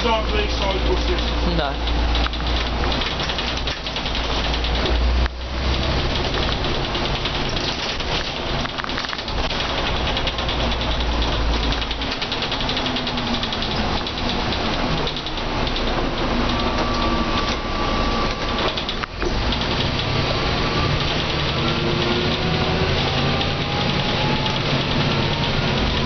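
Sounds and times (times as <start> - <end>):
bus diesel engine accelerating: 0.0 - 26.0.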